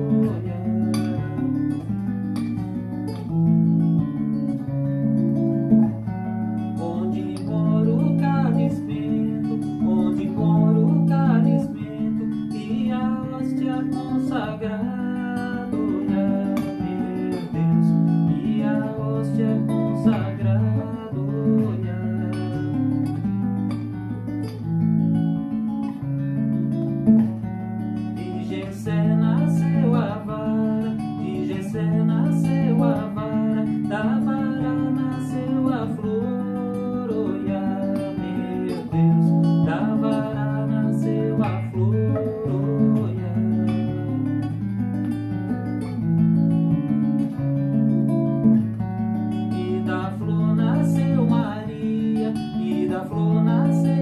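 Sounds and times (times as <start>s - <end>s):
nylon-string guitar playing: 0.0s - 54.0s.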